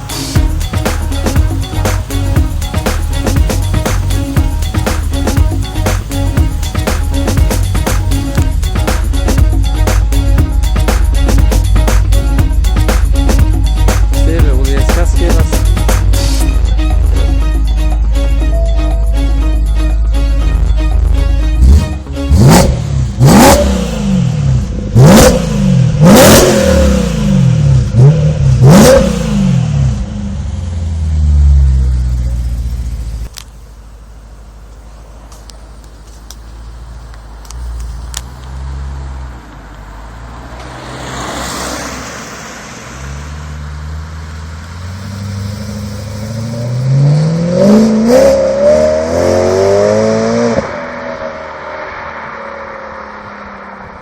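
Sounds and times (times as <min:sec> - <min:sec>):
exhaust cracks: 0:00.0 - 0:17.4, 0:20.4 - 0:51.6
car engine revving: 0:00.0 - 0:54.0.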